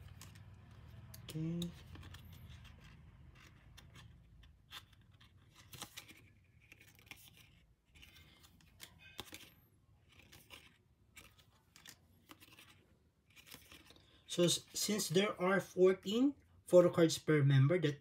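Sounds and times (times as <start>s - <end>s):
paper cards clicking and sliding: 0.0s - 15.1s.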